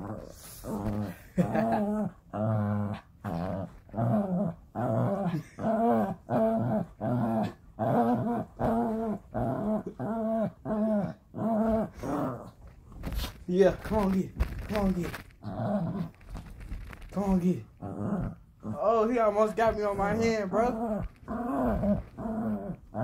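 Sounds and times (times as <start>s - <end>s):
dog play-growling: 0.0s - 23.0s.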